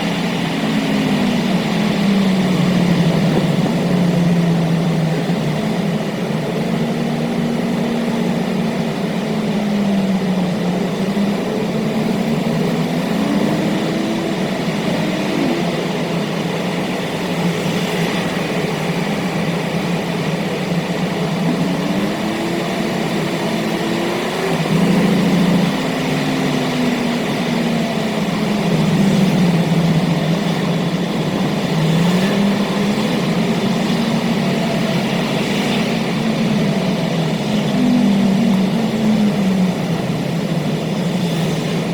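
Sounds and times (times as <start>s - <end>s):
car engine revving: 0.0s - 41.9s
road noise: 0.0s - 41.9s.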